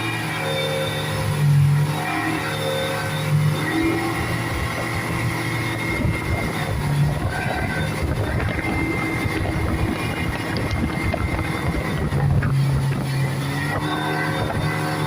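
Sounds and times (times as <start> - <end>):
speedboat engine: 0.0 - 15.0
wind and water rushing: 0.0 - 15.0.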